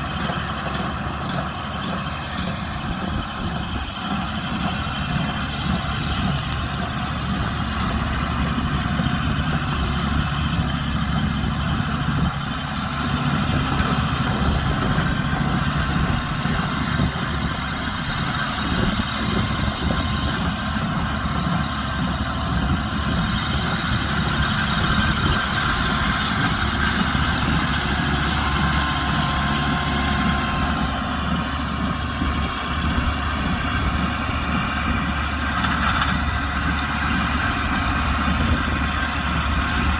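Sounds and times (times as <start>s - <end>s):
baler machinery running: 0.0s - 39.9s
tractor diesel engine running: 0.0s - 39.9s.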